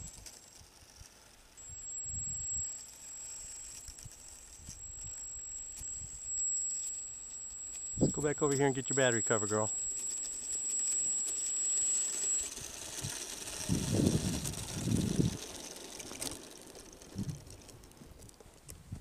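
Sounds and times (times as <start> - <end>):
high whine with hiss: 0.0 - 16.4.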